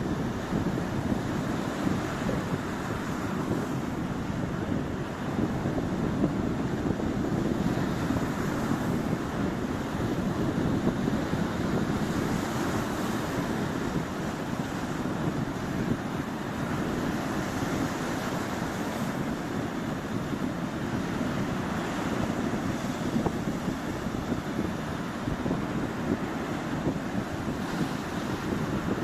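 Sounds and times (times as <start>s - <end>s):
sea waves washing onto shore: 0.0s - 29.0s
wind buffeting microphone: 0.0s - 29.0s.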